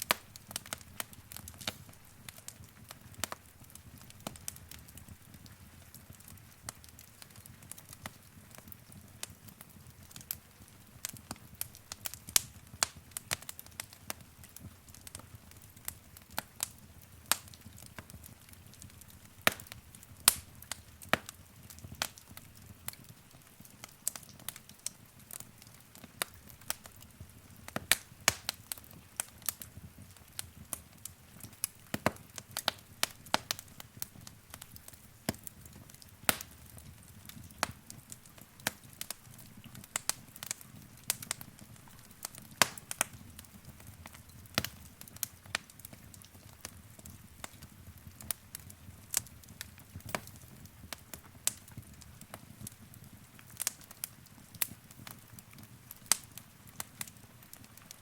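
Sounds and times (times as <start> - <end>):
low rumble of burning fire: 0.0 - 58.0
wood fire crackling: 0.0 - 58.0.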